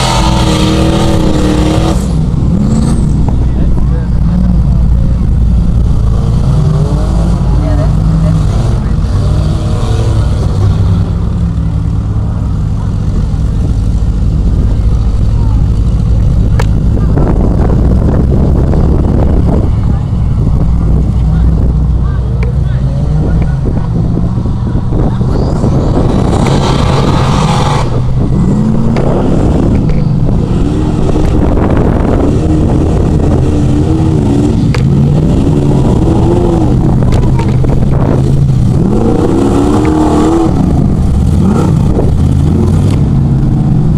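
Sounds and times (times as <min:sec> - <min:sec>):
loud rush of noise: 0:00.0 - 0:43.9
truck engine running: 0:00.0 - 0:43.9.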